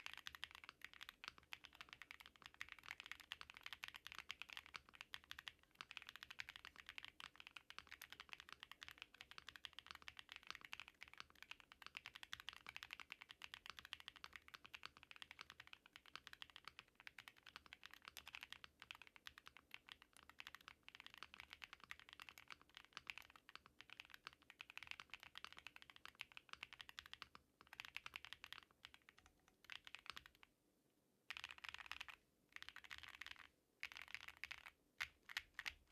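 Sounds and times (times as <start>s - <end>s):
mechanical keyboard typing: 0.0s - 30.5s, 31.3s - 35.9s.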